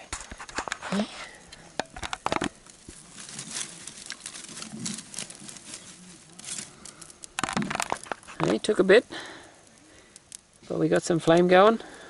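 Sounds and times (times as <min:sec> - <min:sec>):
campfire crackling: 0:00.0 - 0:12.0
rustle: 0:00.0 - 0:12.0.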